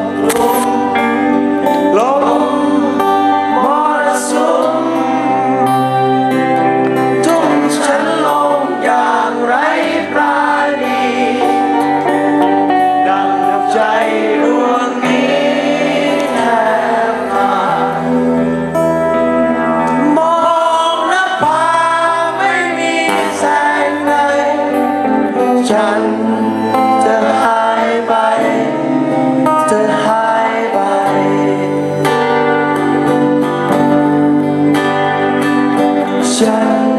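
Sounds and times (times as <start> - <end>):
guitar: 0.0 - 36.9
person singing: 0.0 - 36.9.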